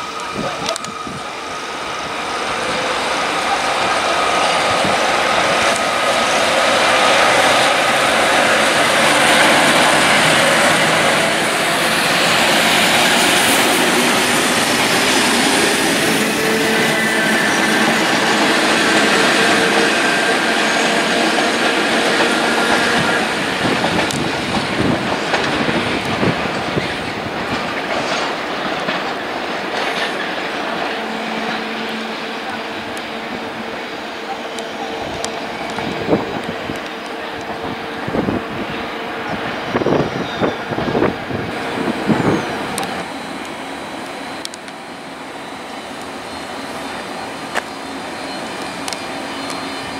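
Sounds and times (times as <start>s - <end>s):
train passing close: 0.0s - 49.9s.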